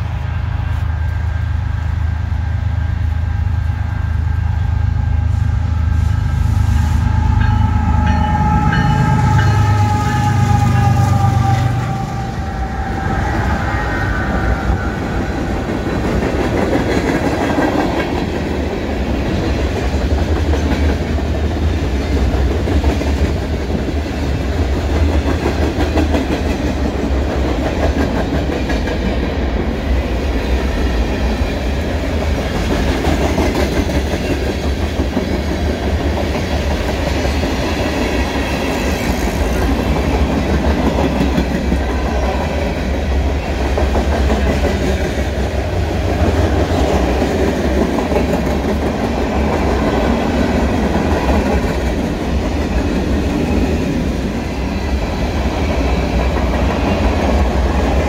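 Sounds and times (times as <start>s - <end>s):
freight train rumbling past: 0.0s - 58.0s
train wheels clattering on rails: 7.4s - 58.0s.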